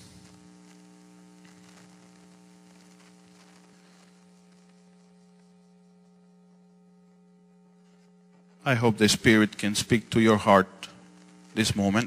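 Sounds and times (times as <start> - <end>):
faint mains hum: 0.0 - 12.0
light hiss: 0.0 - 12.0.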